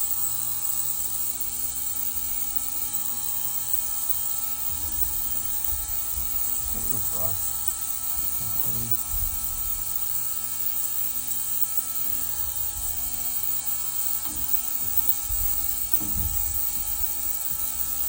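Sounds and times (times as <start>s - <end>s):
ultrasonic cleaner buzzing: 0.0s - 18.0s.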